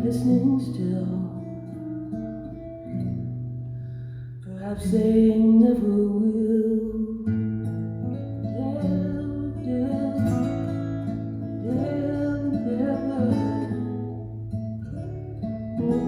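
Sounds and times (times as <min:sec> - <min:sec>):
fingerpicked acoustic guitar: 0:00.0 - 0:16.0.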